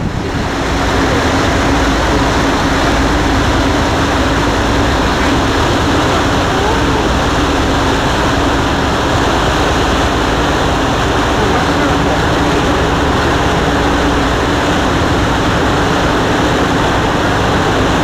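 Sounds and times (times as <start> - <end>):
boat engine humming: 0.0 - 18.0
water rushing: 0.0 - 18.0.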